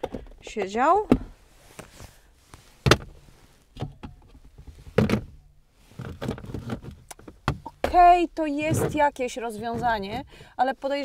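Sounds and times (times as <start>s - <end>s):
knocks and clunks of items handled: 0.0s - 10.4s.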